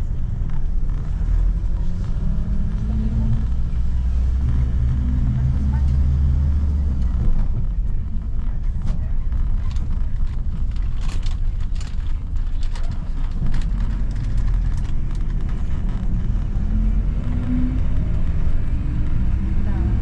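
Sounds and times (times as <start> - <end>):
vehicle rumble from inside: 0.0 - 20.0
light clicks and rattles: 0.1 - 19.4.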